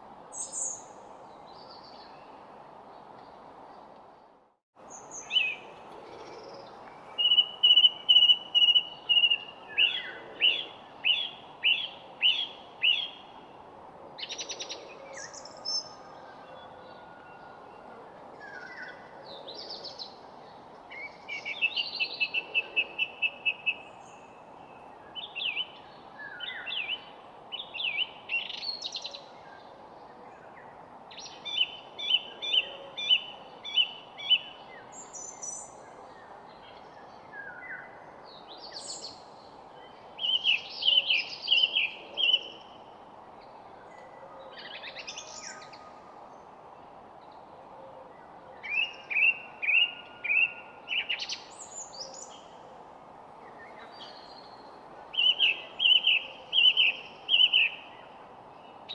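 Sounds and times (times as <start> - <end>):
steady background hiss: 0.0 - 58.9
songbirds chirping and trilling: 0.3 - 58.9.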